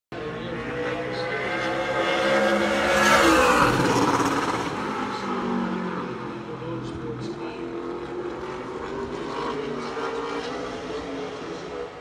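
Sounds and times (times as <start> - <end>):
race car engine passing: 0.2 - 12.0.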